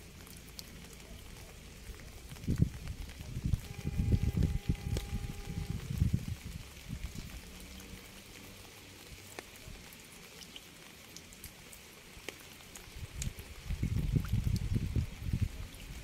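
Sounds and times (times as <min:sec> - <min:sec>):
raindrops ticking: 0:00.0 - 0:16.0
steady rain hissing: 0:00.0 - 0:16.0.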